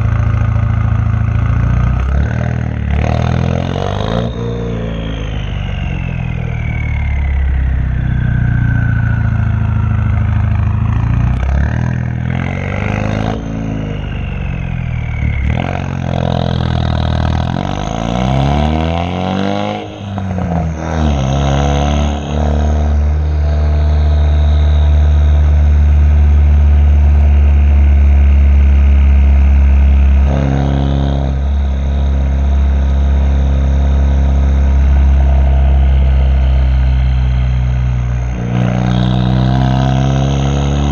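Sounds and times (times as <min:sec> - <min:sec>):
loud car exhaust while driving: 0:00.0 - 0:40.9
high turbo whistle: 0:02.0 - 0:40.9.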